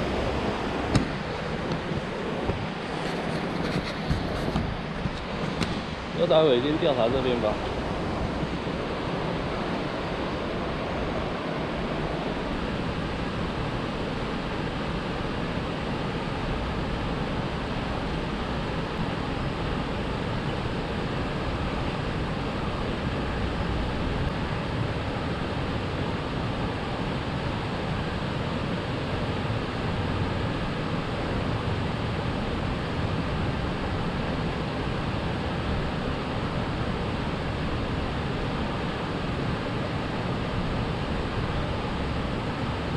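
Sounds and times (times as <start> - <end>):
constant hiss: 0.0 - 42.9.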